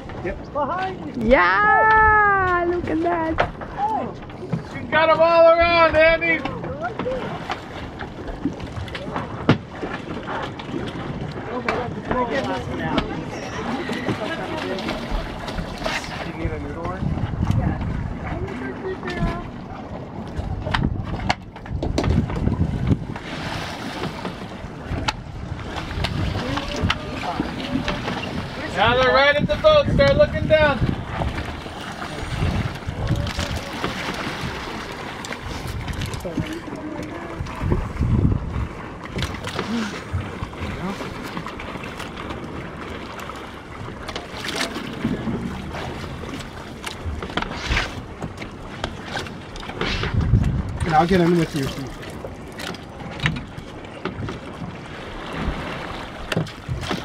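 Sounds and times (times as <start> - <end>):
wind buffeting microphone: 0.0 - 42.9, 43.7 - 57.0
water sloshing against boat: 0.0 - 57.0.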